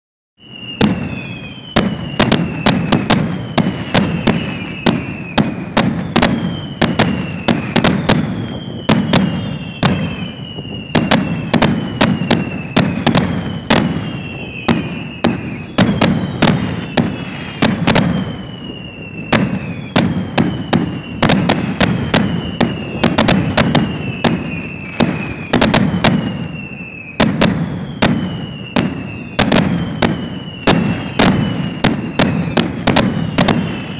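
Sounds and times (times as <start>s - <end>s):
falling whistle: 0.4s - 33.9s
fireworks bangs and cracks: 0.4s - 33.9s.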